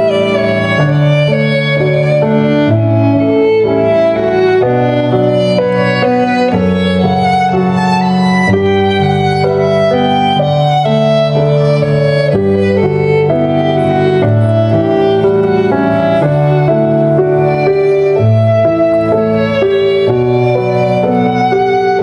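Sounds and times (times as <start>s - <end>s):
bowed violin melody: 0.0s - 22.0s.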